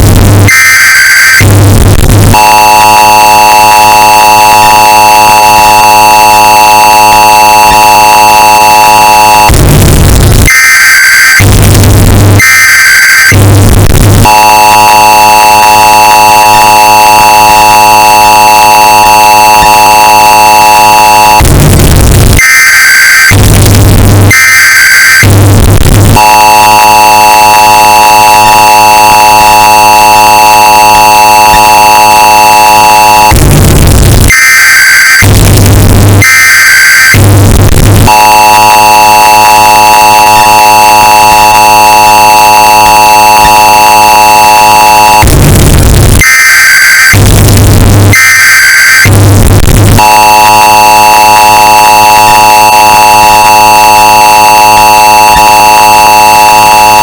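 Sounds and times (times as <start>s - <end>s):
screeching data tones: 0.0s - 49.0s, 49.8s - 57.0s
distorted two-tone attention signal: 0.0s - 49.1s, 49.7s - 57.0s.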